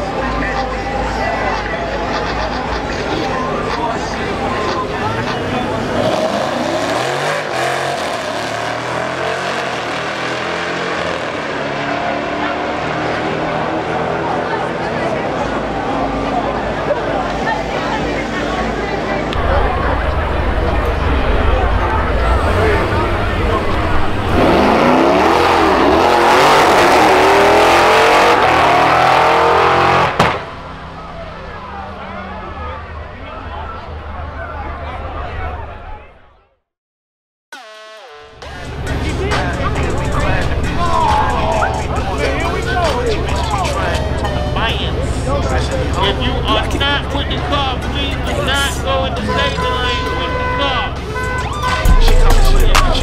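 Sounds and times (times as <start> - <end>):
drag cars accelerating: 0.0 - 35.7, 38.4 - 53.0.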